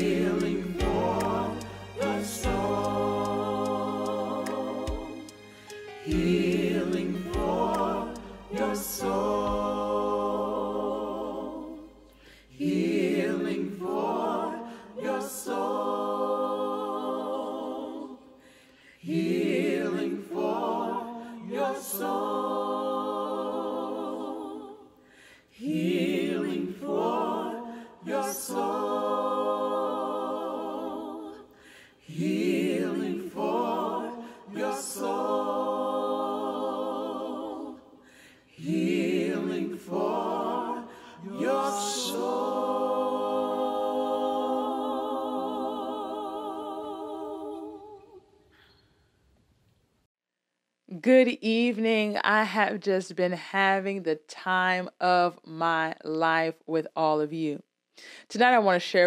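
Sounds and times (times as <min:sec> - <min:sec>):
choir singing a cappella: 0:00.0 - 0:49.1.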